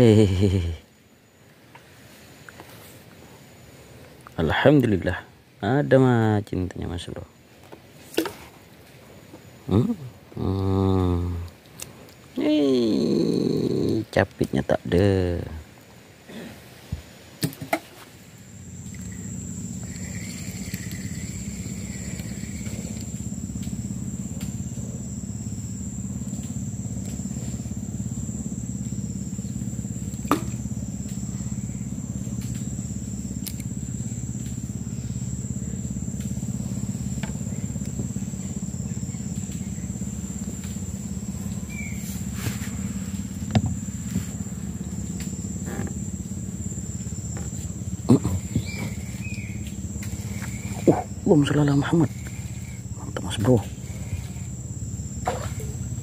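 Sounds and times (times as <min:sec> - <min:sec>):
insects droning: 0:00.0 - 0:56.0
low hum: 0:00.0 - 0:56.0.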